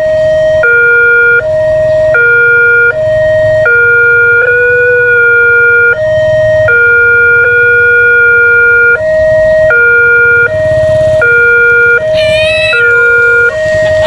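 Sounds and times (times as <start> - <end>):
level-crossing two-tone alarm: 0.0 - 14.0.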